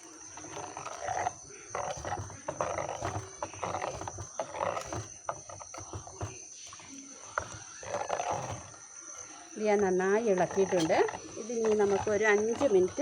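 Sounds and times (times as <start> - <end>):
spoon stirring liquid in pot: 0.0 - 13.0.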